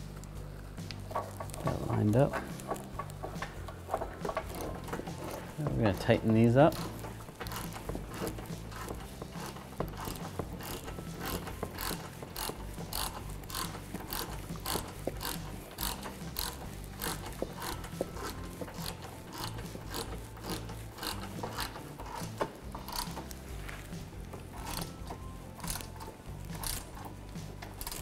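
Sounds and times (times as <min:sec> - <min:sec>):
hand ratchet clicking: 0:00.9 - 0:23.6, 0:24.2 - 0:28.0.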